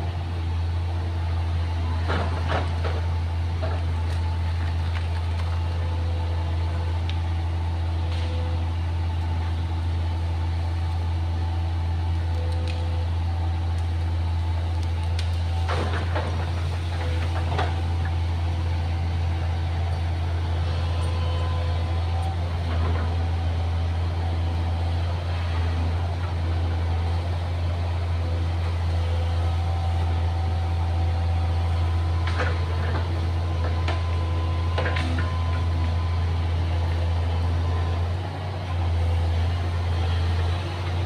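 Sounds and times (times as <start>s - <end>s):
excavator diesel engine droning: 0.0s - 41.0s.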